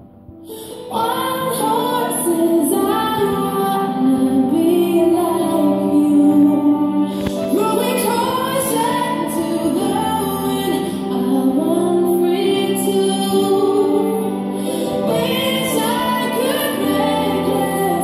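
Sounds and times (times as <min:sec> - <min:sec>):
recorded song with vocals: 0:00.0 - 0:18.0.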